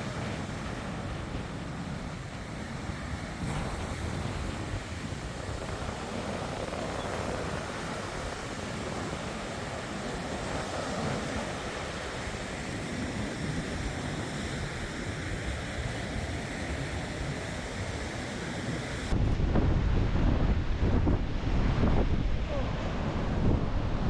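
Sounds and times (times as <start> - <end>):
surf breaking on a beach: 0.0 - 24.0
wind buffeting microphone: 0.0 - 24.0.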